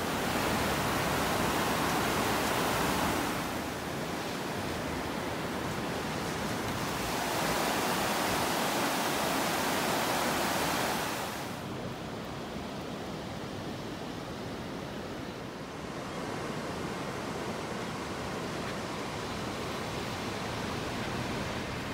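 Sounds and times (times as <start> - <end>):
river water rushing over weir: 0.0 - 21.9.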